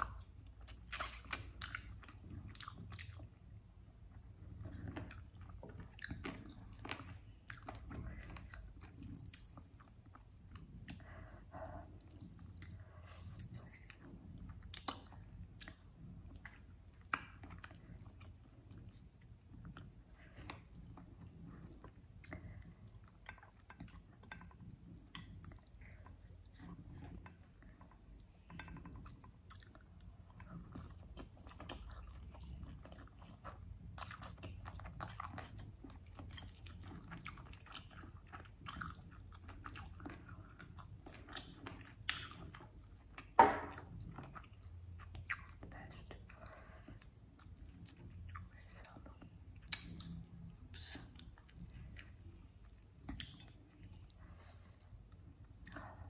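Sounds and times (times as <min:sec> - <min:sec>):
wet chewing and mouth clicks: 0:00.0 - 0:03.6, 0:04.2 - 0:56.0.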